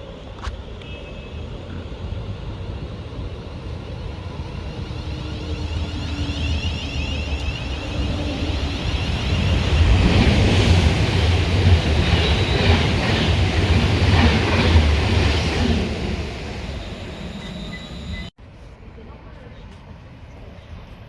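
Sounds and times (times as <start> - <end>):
train rumbling past: 0.6 - 21.0.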